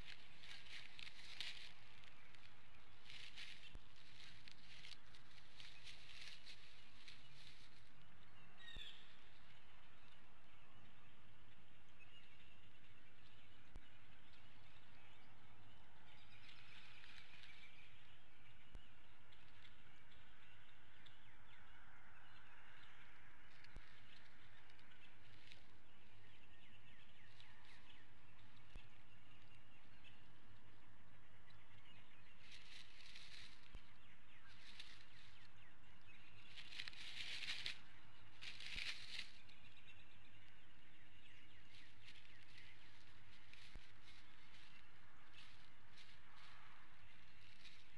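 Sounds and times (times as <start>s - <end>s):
rustles of straw and sticks: 0.0s - 10.3s, 13.0s - 20.1s, 23.4s - 47.9s
distant bird chirps: 0.0s - 47.9s.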